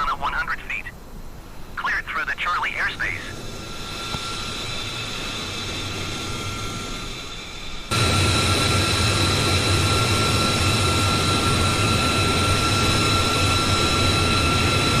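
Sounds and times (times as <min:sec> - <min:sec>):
aircraft engine whining: 0:01.4 - 0:15.0.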